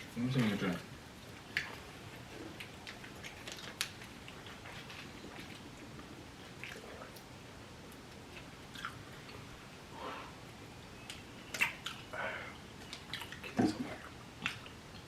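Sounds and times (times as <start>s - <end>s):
faint chewing: 0.0s - 7.3s, 7.9s - 9.6s, 11.0s - 15.0s.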